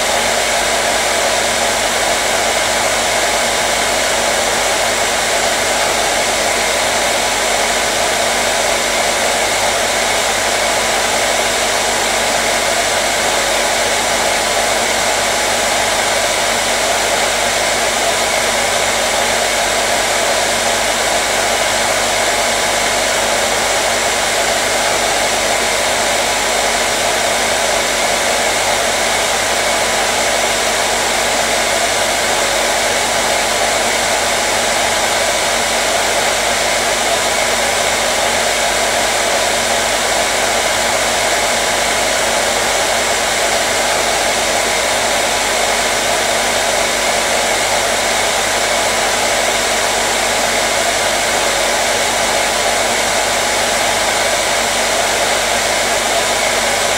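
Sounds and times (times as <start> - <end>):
hair dryer blowing air: 0.0 - 56.9.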